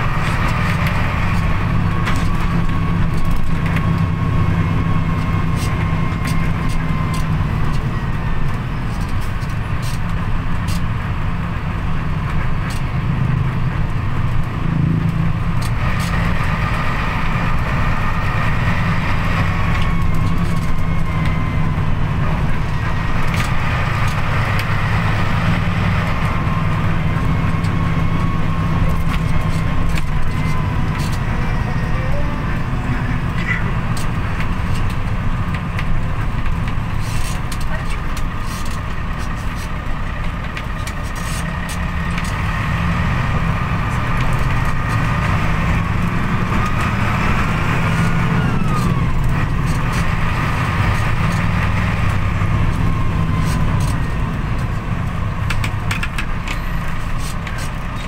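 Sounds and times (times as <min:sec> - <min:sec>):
bus engine running: 0:00.0 - 0:58.0
road noise: 0:00.0 - 0:58.0.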